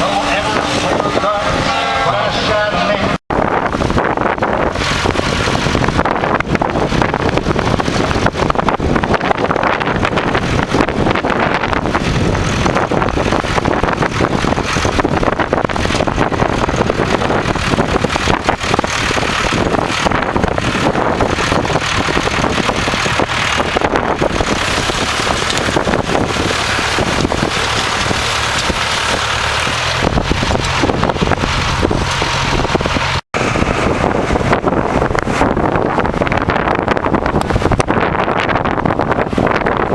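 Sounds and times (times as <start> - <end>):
tractor engine running: 0.0 - 39.9
wind buffeting microphone: 0.0 - 39.9.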